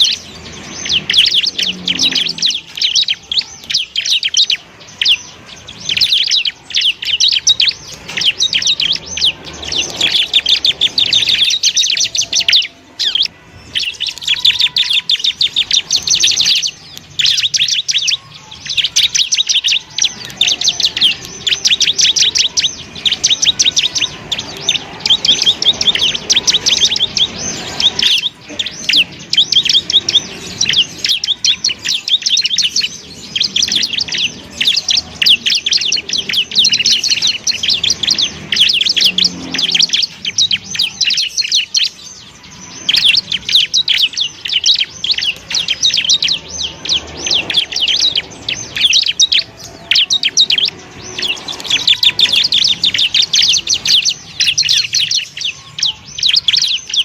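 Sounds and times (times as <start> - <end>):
bird singing high sharp chirps: 0.0 - 57.0.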